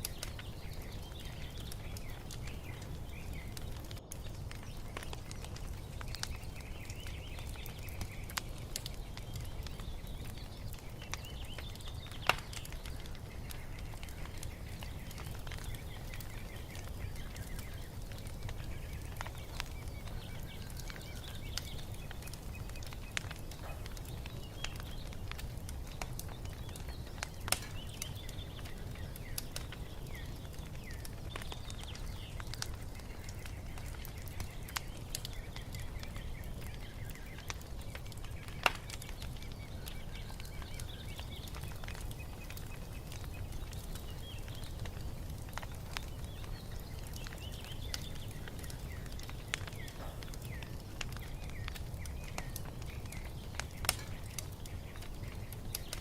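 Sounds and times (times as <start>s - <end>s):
fire crackling with sharp pops: 0.0s - 56.0s
low fire rumble: 0.0s - 56.0s
small birds chirping: 0.0s - 56.0s.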